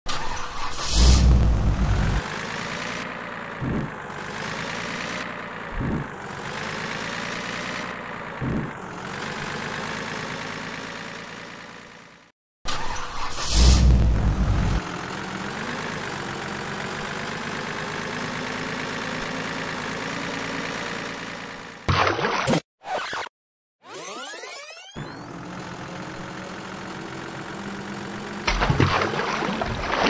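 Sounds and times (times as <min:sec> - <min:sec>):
truck engine running: 0:00.2 - 0:21.9, 0:25.0 - 0:30.0.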